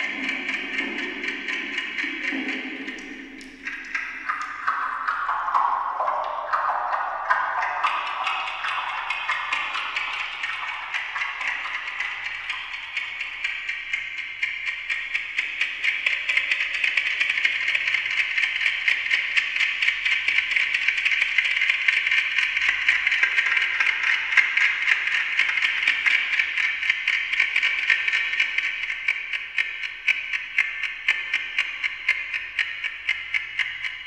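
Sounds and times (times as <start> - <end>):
delayed clock ticking clicks: 0.0 - 34.0.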